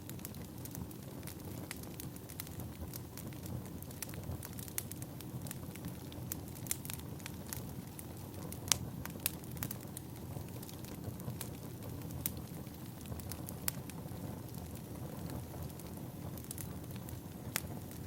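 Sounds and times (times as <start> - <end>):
firewood crackling and popping: 0.0 - 18.0
flame rumble: 0.0 - 18.0.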